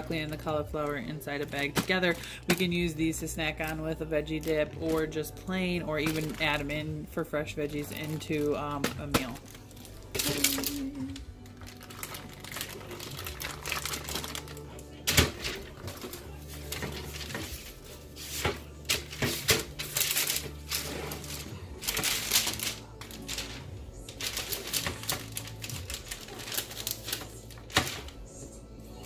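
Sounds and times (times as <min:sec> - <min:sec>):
parchment paper crackling: 0:00.0 - 0:28.4
background music: 0:00.0 - 0:29.0.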